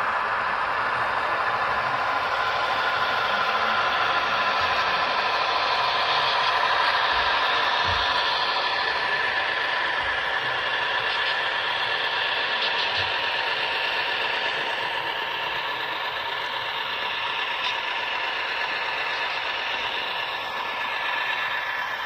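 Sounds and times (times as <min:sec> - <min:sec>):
model train clattering on track: 0:01.2 - 0:22.0.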